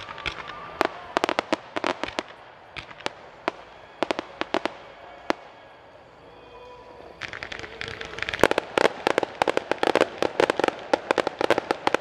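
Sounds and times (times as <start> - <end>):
fireworks popping and banging: 0.0 - 5.4, 7.2 - 12.0.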